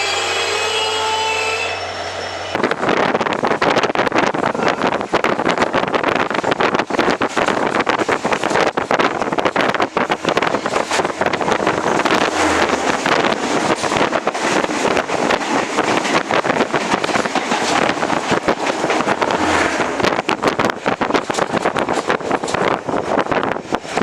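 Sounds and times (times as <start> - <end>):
wind rushing on microphone: 2.5 - 24.0
train wheels clattering on track: 2.6 - 24.0.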